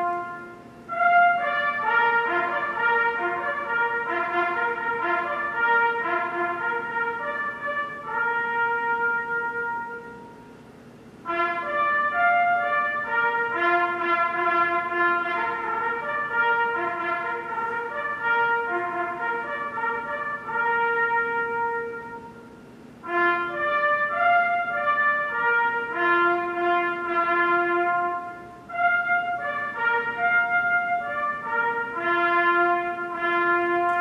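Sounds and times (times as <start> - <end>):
trumpet playing bugle call: 0.0 - 10.6, 11.2 - 34.0.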